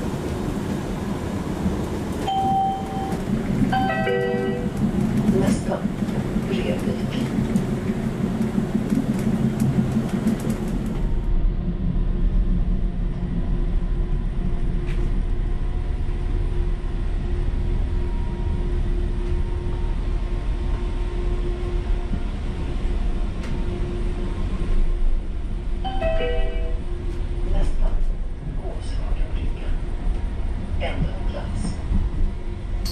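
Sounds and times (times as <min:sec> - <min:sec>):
tram wheels rumbling: 0:00.0 - 0:32.9.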